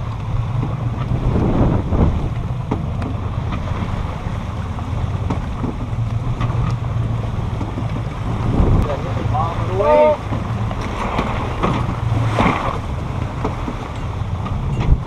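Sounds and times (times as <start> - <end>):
boat engines humming: 0.0 - 15.0
water slapping the hull: 0.0 - 15.0
wind rushing on microphone: 0.0 - 15.0.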